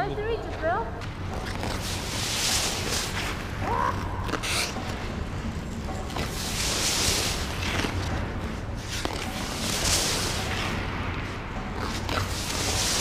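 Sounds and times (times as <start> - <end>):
low rink hum: 0.0 - 13.0
skates scraping on ice: 0.5 - 13.0.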